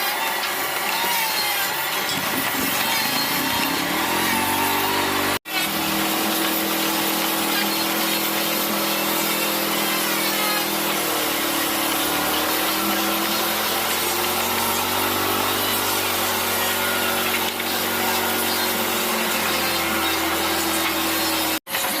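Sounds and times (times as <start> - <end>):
power tool cutting wood: 0.0 - 22.0.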